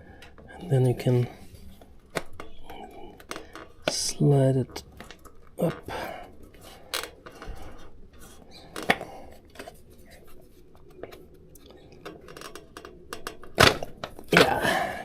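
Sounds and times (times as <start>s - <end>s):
clicks and light scraping: 0.0s - 14.6s.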